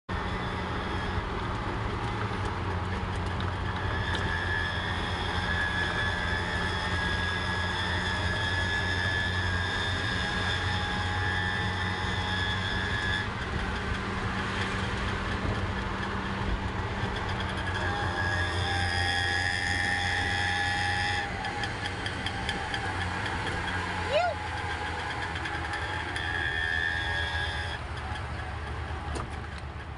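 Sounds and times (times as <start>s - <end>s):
high whine: 0.1s - 29.9s
rickshaw engine drone: 0.1s - 29.9s
road and wind noise: 0.1s - 29.9s.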